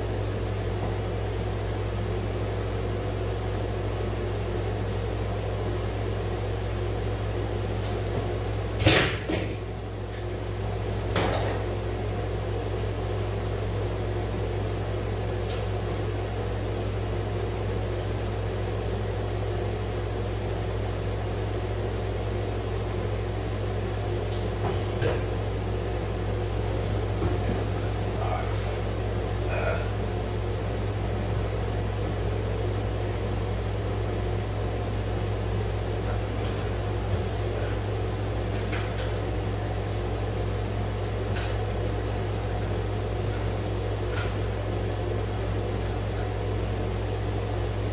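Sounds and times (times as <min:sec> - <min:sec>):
air conditioner humming: 0:00.0 - 0:47.9.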